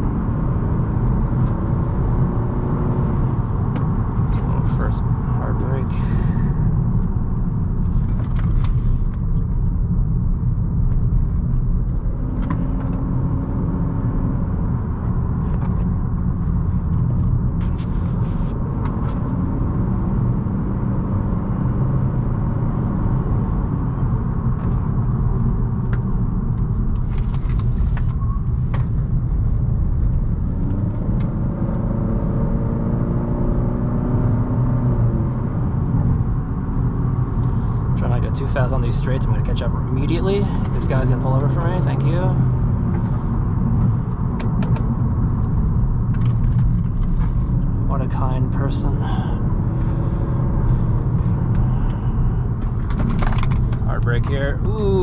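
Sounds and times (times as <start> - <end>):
road and tyre noise: 0.0 - 55.0.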